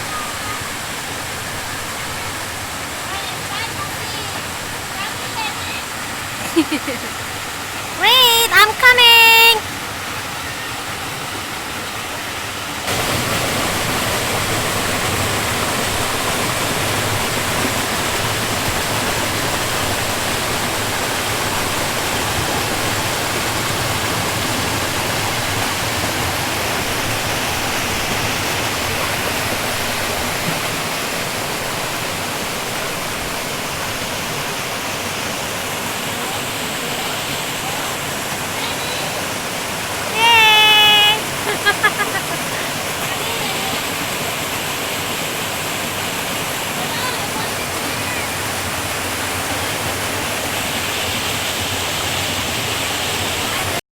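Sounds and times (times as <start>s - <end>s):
stream rushing over rocks: 0.0s - 53.8s.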